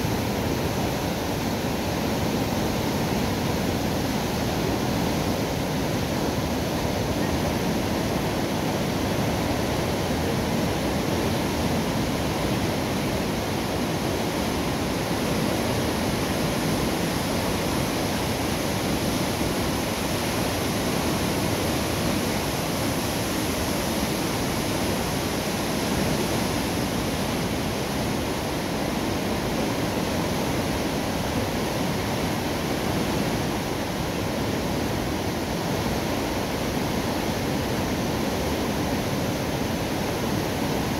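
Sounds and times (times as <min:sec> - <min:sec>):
water rushing at a river lock: 0:00.0 - 0:40.9.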